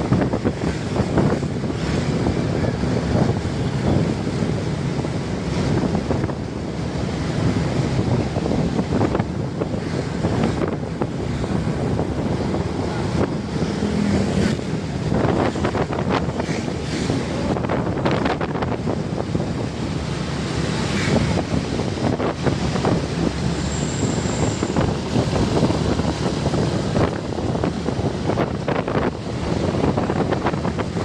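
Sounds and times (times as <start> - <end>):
heavy truck engines: 0.0 - 31.0
tyres on the road: 0.0 - 31.0
wind rumbling on microphone: 0.0 - 31.0.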